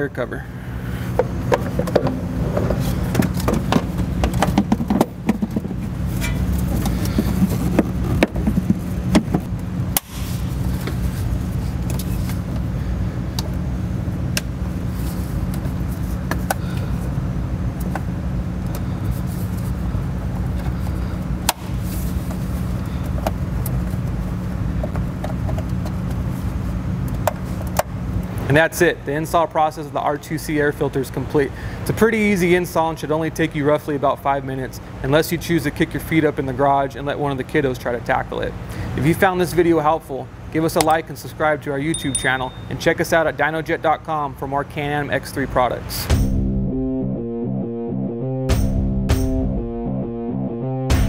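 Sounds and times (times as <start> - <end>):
low mechanical hum: 0.0 - 47.2.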